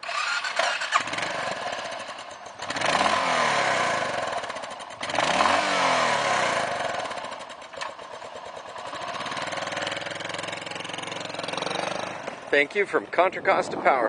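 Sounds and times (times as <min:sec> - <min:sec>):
motorcycle engine revving and idling: 0:00.0 - 0:13.4.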